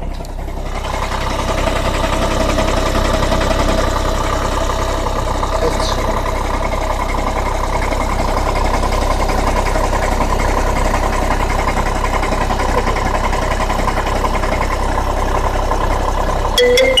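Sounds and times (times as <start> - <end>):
diesel engine idling with knock: 0.0 - 17.0.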